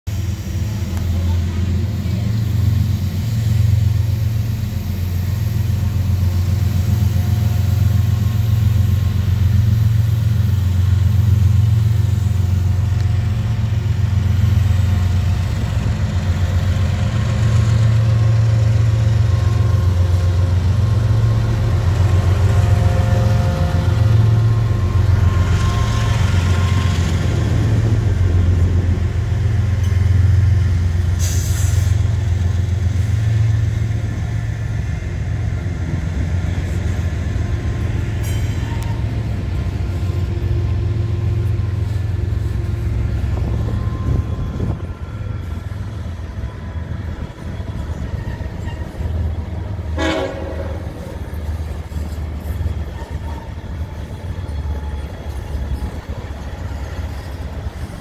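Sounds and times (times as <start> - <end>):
diesel locomotives rumbling: 0.0 - 58.0.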